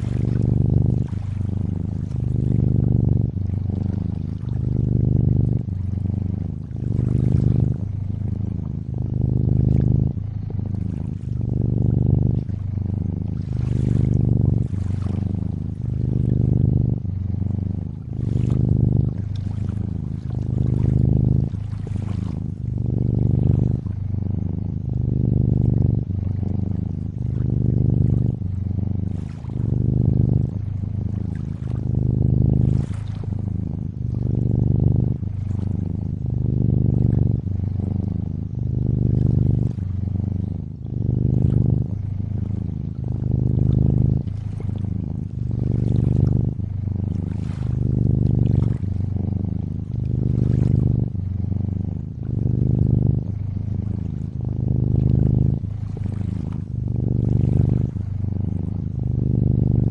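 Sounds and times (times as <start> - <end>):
cat purring: 0.0 - 59.9
faint lapping water: 0.0 - 59.9.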